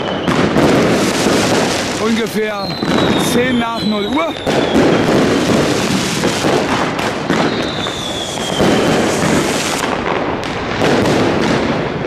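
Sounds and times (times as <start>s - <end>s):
whistling rocket: 0.0s - 10.0s
fireworks crackling and banging: 0.0s - 12.0s.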